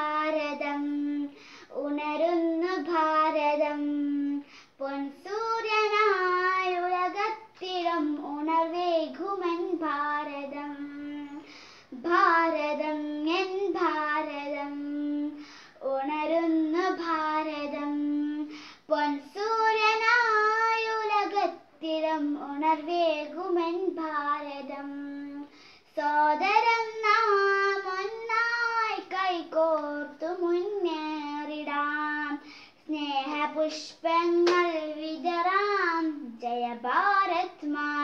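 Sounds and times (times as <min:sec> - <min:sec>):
girl singing unaccompanied: 0:00.0 - 0:38.0.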